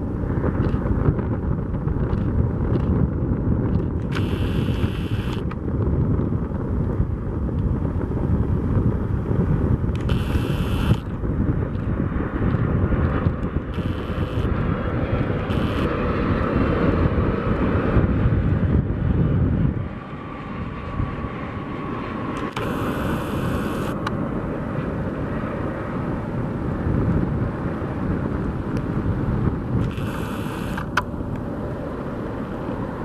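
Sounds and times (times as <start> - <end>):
jet airliner engines rumbling: 0.0 - 33.0.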